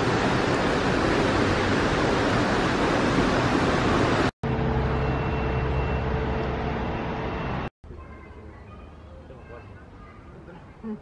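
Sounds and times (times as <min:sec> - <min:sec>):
street traffic engine hum: 0:00.0 - 0:11.0.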